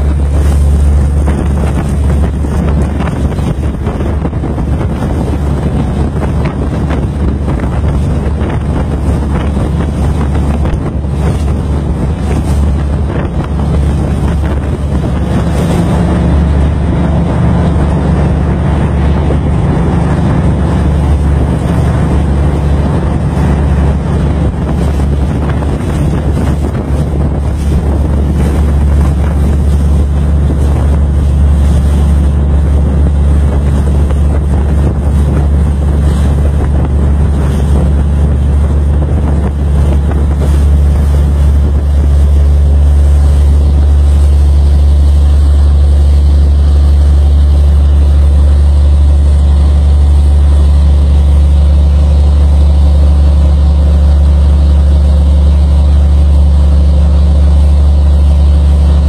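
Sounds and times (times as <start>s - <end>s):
boat engine droning: 0.0s - 59.0s
wind buffeting microphone: 0.0s - 59.0s.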